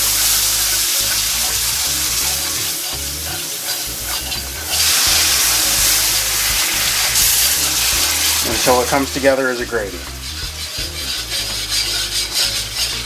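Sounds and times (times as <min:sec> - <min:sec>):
broth sizzling in hot roux: 0:00.0 - 0:13.0.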